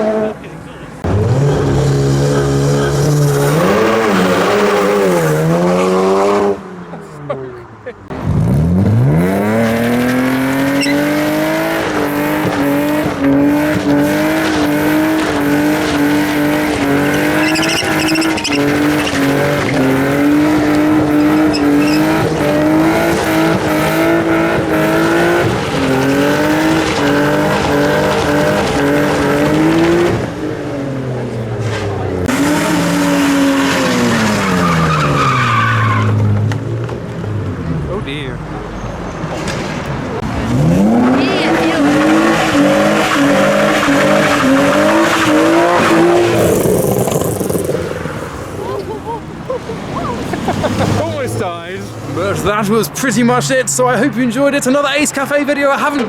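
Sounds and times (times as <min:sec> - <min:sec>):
car engine at high revs: 0:00.0 - 0:53.6
tyres squealing and skidding: 0:00.0 - 0:56.0.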